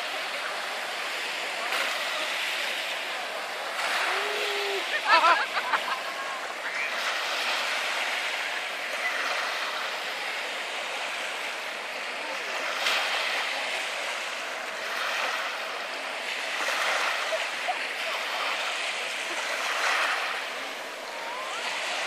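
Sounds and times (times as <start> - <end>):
small waves lapping: 0.0 - 22.0.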